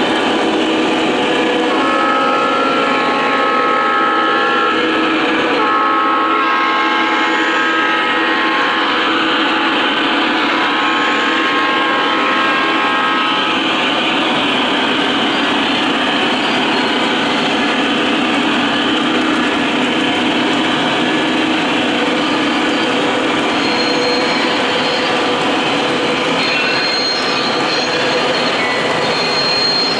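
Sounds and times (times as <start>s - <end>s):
train rumbling on track: 0.0s - 29.9s
model train horn: 0.1s - 29.9s.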